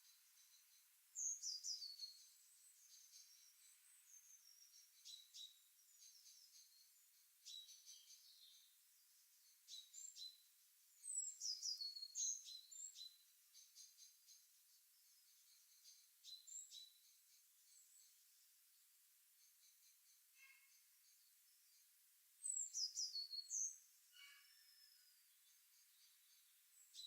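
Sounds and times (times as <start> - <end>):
birds chirping and singing: 0.0 - 18.4, 19.4 - 27.0
faint background hiss: 0.0 - 27.0.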